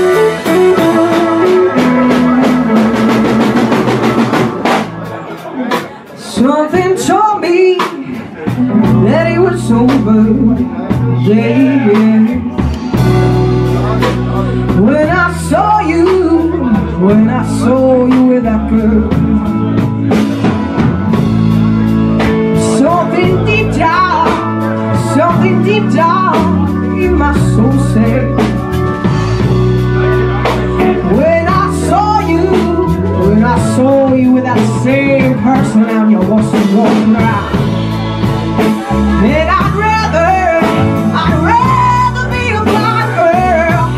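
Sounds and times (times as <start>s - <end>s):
woman singing: 0.0s - 3.7s, 6.2s - 13.4s, 14.6s - 19.8s, 22.2s - 28.8s, 30.4s - 37.7s, 38.6s - 43.9s
blues band playing: 0.0s - 43.9s.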